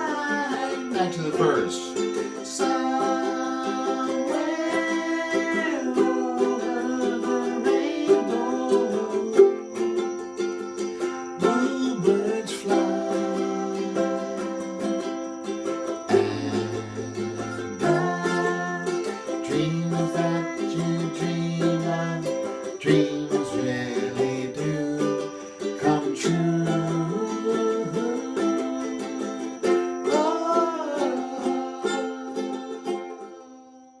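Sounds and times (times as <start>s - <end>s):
ukulele playing a tune: 0.0s - 33.9s.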